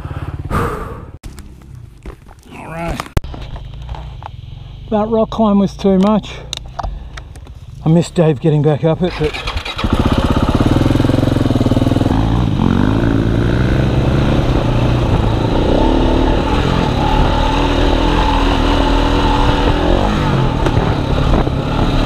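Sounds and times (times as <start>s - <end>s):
motorcycle engine running: 0.0s - 2.3s, 3.3s - 7.8s, 9.1s - 22.0s.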